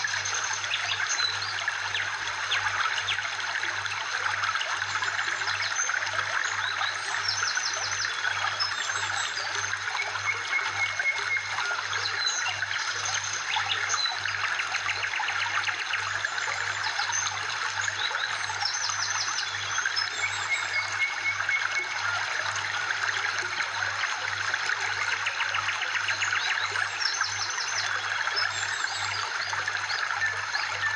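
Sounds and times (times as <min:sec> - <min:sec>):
trickling water: 0:00.0 - 0:30.9.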